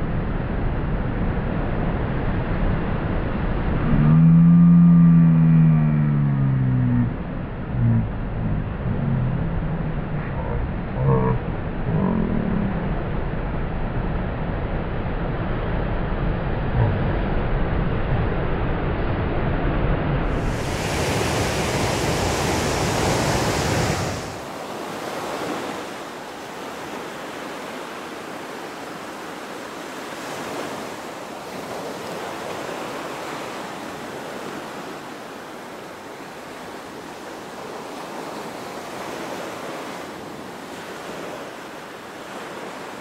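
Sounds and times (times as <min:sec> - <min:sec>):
ocean surf breaking: 0:01.5 - 0:43.0.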